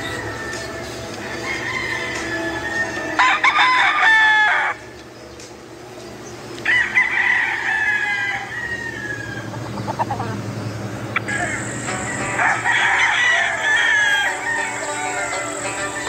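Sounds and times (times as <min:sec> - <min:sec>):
rooster crowing: 0:00.0 - 0:04.9, 0:06.6 - 0:10.3, 0:11.2 - 0:16.0.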